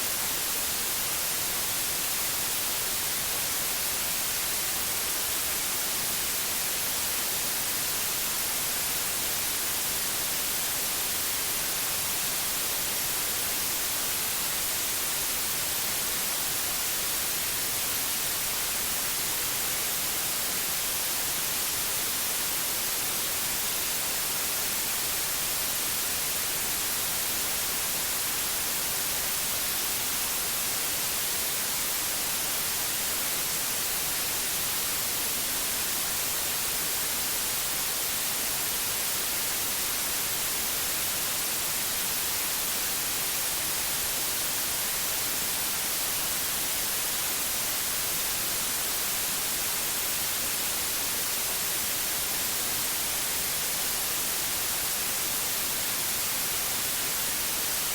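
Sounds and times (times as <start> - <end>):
white noise hiss: 0.0 - 57.9.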